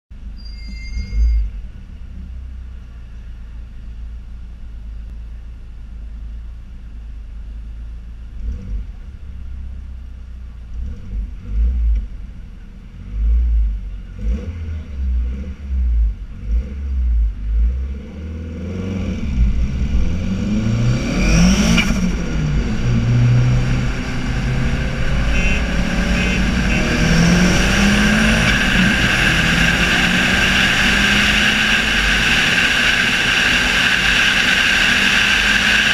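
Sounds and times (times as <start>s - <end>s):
car engine rumbling and accelerating: 0.1s - 35.9s.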